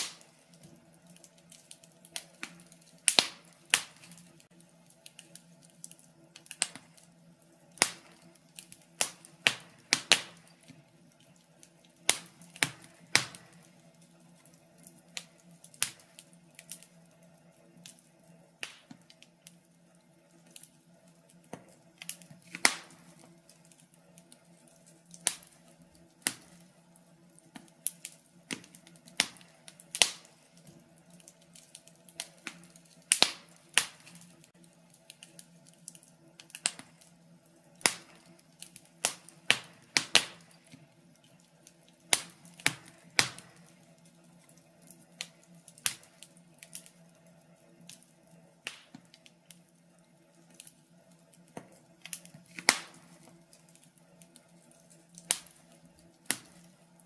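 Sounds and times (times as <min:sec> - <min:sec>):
faint steady hum: 0:00.0 - 0:57.0
wood fire crackling: 0:00.0 - 0:57.0.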